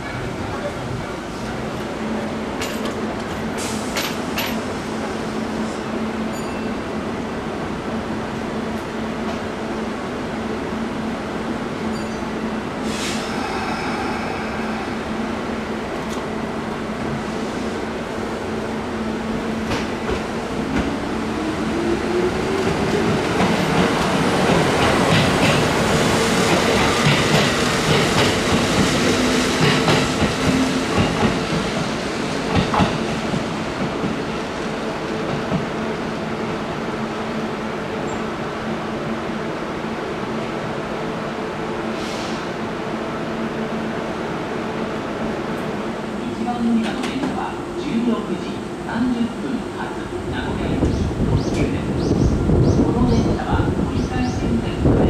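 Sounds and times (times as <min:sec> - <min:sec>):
train hum: 0:00.0 - 0:55.0.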